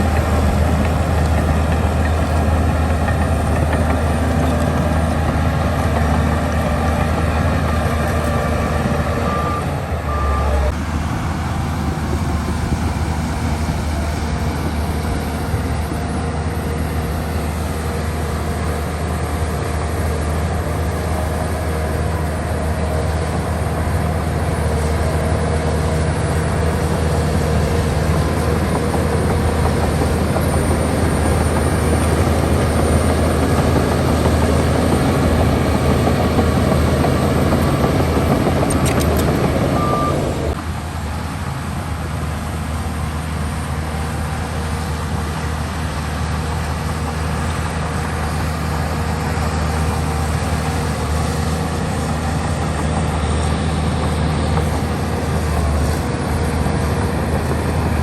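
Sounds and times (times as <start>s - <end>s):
diesel engine droning: 0.0s - 58.0s
machine working noise: 0.0s - 58.0s.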